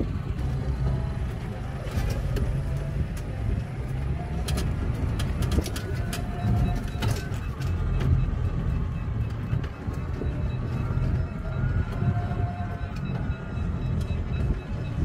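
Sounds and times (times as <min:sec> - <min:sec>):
car body rattles and clicks: 0:00.0 - 0:15.0
wind and road noise: 0:00.0 - 0:15.0.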